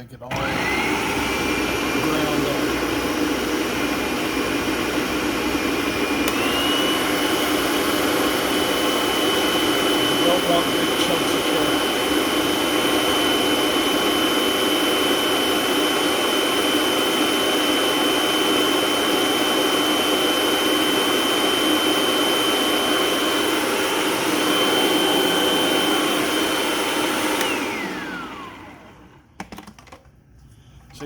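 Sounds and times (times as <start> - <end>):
food processor motor whining: 0.3 - 30.0.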